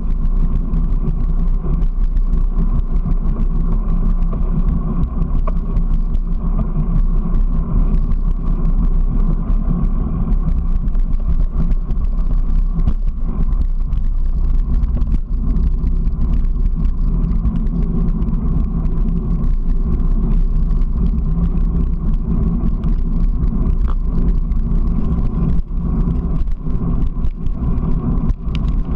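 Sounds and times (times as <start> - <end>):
constant low hum: 0.0 - 28.9
tyres rolling on pavement: 0.0 - 28.9
wind noise: 0.0 - 28.9.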